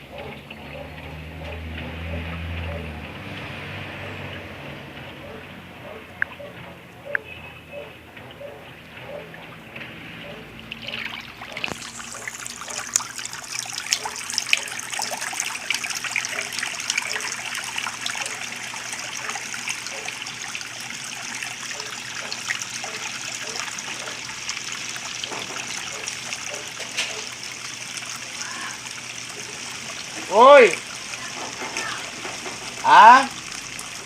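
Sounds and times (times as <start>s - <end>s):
water running and splashing: 0.0s - 34.0s.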